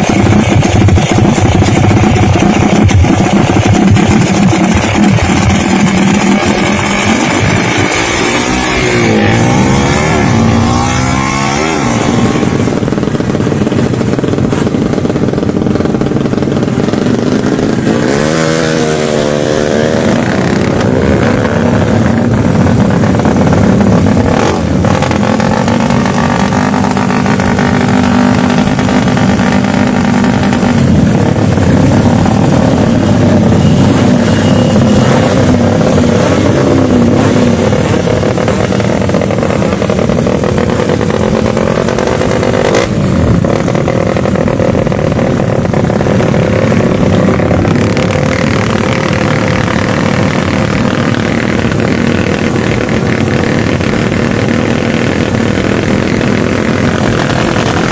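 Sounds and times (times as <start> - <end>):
motorcycle engines revving: 0.0 - 57.9.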